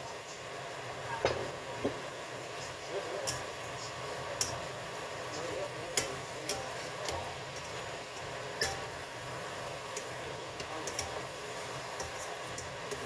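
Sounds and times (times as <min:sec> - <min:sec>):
stir-fry hiss: 0:00.0 - 0:13.0
spatula clicking and scraping wok: 0:01.3 - 0:13.0.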